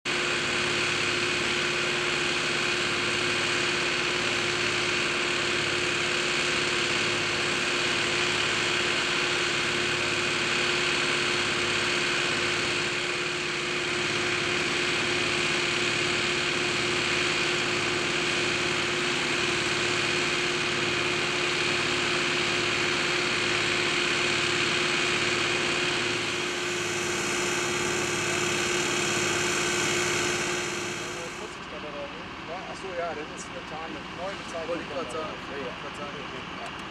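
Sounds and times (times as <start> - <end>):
harvester machine drone: 0.1 - 36.9.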